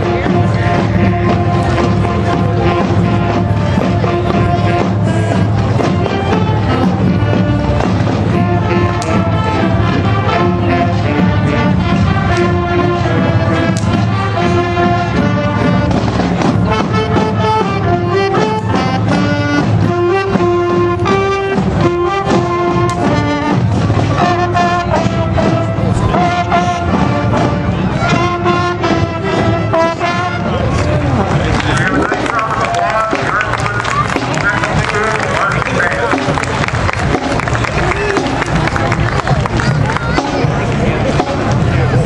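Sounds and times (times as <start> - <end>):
marching band playing: 0.0 - 42.0.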